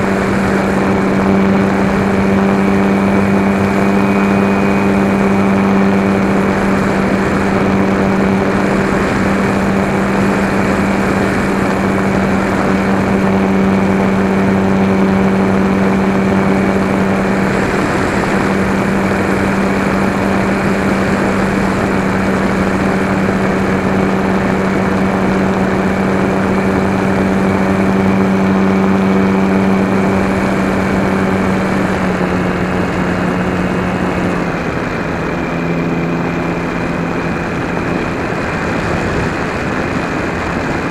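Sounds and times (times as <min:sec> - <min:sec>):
model airplane motor and propeller: 0:00.0 - 0:40.9.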